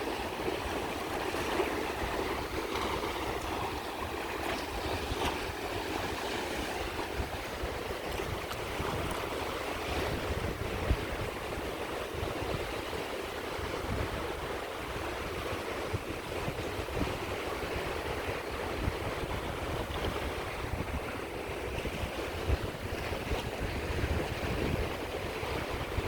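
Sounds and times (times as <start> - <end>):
sea waves washing onto shore: 0.0 - 26.0.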